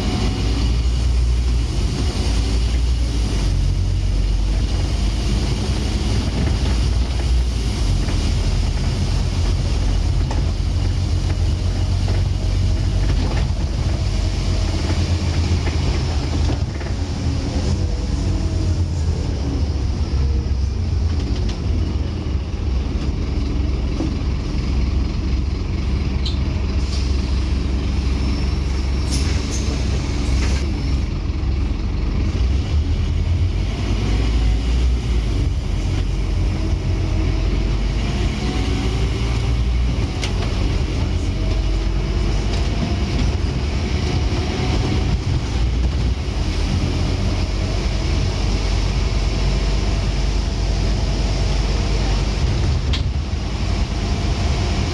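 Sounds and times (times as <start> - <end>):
bus diesel engine rumbling: 0.0 - 54.9.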